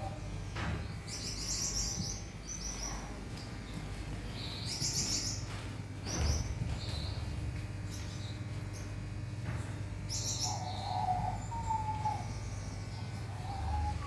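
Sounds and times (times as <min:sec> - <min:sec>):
small birds twittering: 0:00.0 - 0:14.0
steady low hum: 0:00.0 - 0:14.0.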